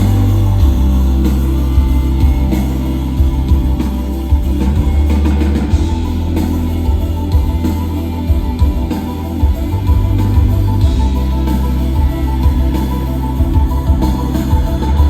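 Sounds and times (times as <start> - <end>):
live instrumental rock music: 0.0 - 15.0.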